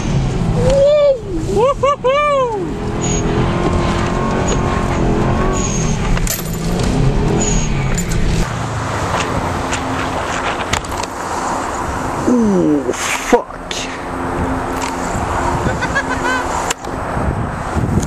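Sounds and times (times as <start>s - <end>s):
car engine revving: 0.0s - 18.0s
rushing noise: 0.0s - 18.0s.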